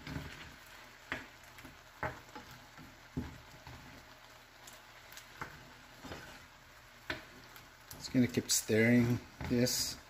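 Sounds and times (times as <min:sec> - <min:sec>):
faint simmering: 0:00.0 - 0:10.0
wooden spatula scraping a pan: 0:00.0 - 0:10.0.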